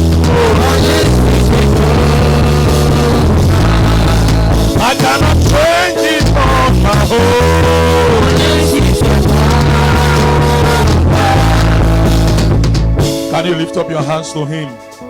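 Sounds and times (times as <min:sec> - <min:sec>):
bass line: 0:00.0 - 0:13.3
church worship music: 0:00.0 - 0:15.0
sung melody: 0:00.0 - 0:15.0.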